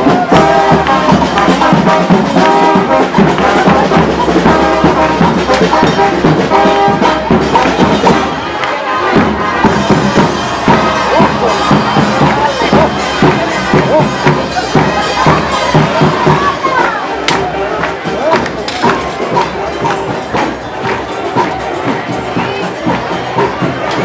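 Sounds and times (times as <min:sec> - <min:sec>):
brass band playing dance tune: 0:00.0 - 0:24.0
steady drum beat: 0:00.0 - 0:24.0.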